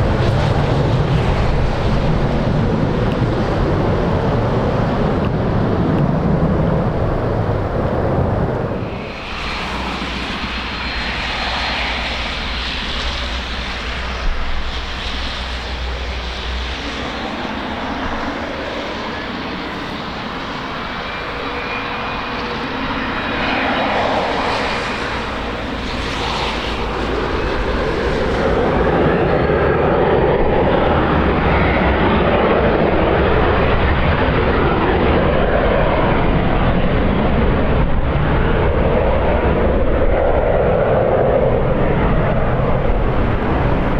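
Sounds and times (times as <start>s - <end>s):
jet engines rushing: 0.0s - 43.9s
wind rumble on microphone: 0.0s - 43.9s.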